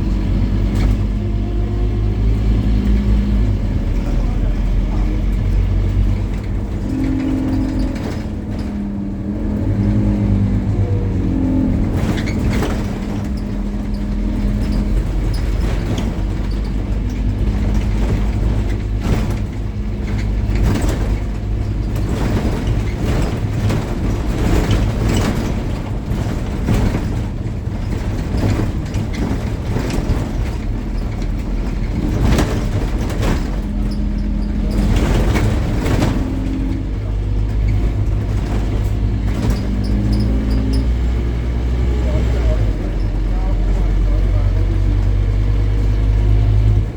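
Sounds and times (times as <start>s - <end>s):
bus engine running: 0.0s - 46.9s
sharp knocks and rattles: 0.0s - 46.9s.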